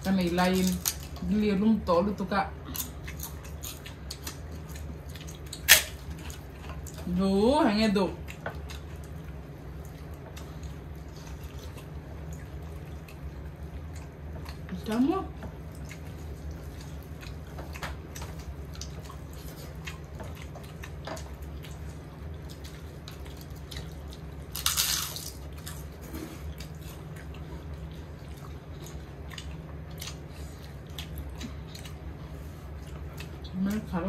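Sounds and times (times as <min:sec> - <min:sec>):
chewing smacks: 0:02.7 - 0:07.0, 0:08.2 - 0:14.7, 0:15.4 - 0:33.5.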